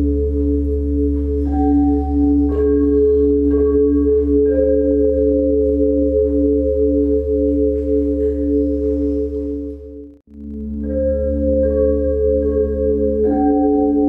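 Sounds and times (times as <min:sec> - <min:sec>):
low steady drone: 0:00.0 - 0:14.0
pulsing bell-like tones: 0:00.0 - 0:14.0
tubular bells struck: 0:00.0 - 0:14.0.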